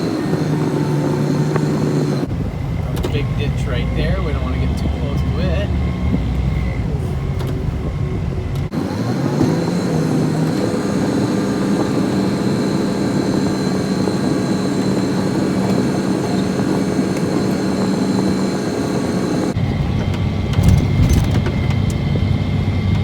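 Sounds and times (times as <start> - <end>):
snowplow engine running: 0.0 - 23.0.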